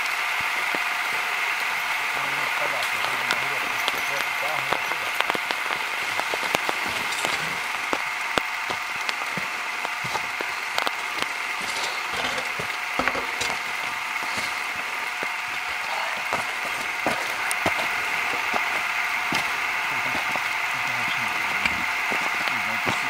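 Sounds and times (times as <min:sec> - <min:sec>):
rain hissing in forest: 0:00.0 - 0:23.0
sharp ticks and cracks: 0:00.0 - 0:23.0.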